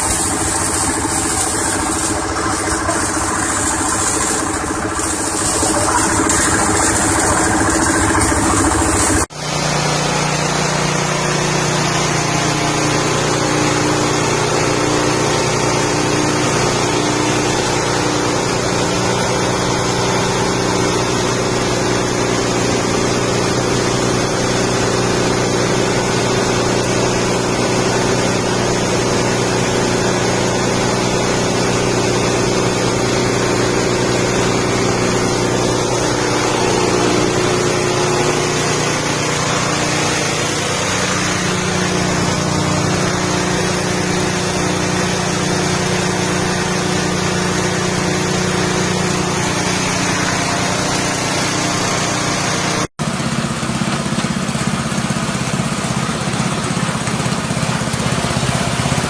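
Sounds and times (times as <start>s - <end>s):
engine-driven grinding machine: 0.0s - 59.0s.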